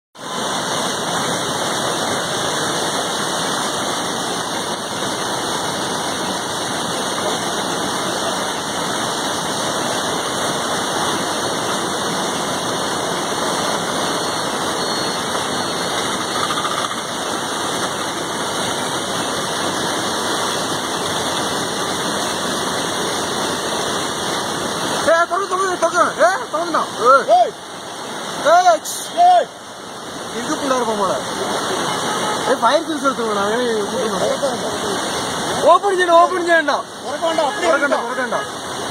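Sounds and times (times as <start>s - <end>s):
rushing water: 0.2s - 38.9s.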